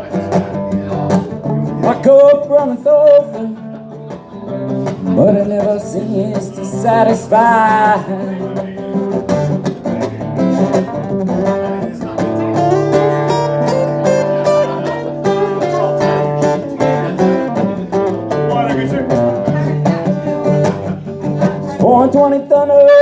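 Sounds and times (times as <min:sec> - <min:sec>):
acoustic guitar strumming: 0:00.0 - 0:23.0
person singing blues: 0:00.0 - 0:23.0.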